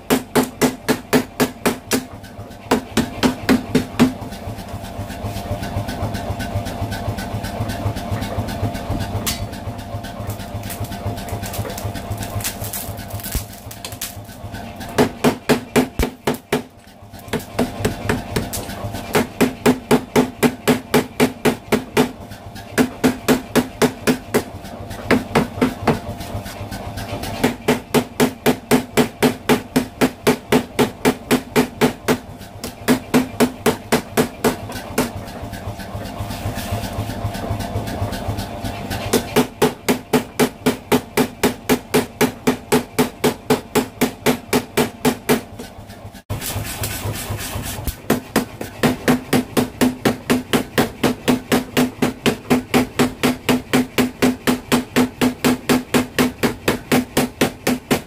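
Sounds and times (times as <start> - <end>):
power hammer pounding metal: 0.0 - 4.7, 5.6 - 58.0
machine motor running: 0.0 - 58.0.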